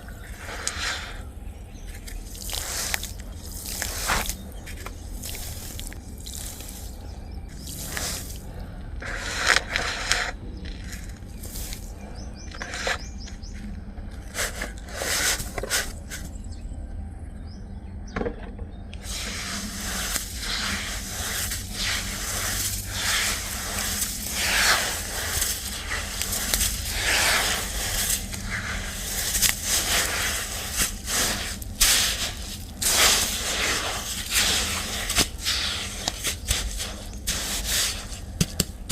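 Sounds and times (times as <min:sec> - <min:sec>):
sand clumps crumbling: 0:00.0 - 0:13.6, 0:14.2 - 0:16.4, 0:19.0 - 0:38.9.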